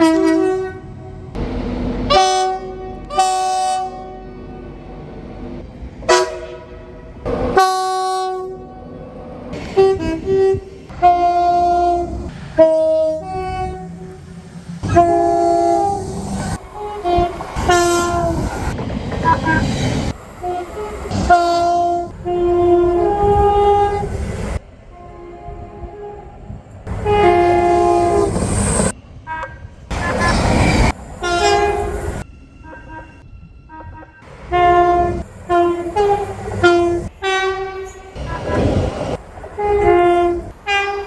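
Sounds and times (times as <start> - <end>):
train horn blasts: 0.0 - 1.4, 2.0 - 5.1, 6.0 - 19.7, 20.4 - 38.9, 39.5 - 41.0.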